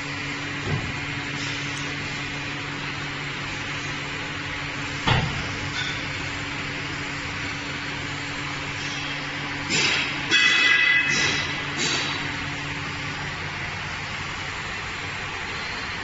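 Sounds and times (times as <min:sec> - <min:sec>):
glass cutting machine humming: 0:00.0 - 0:16.0.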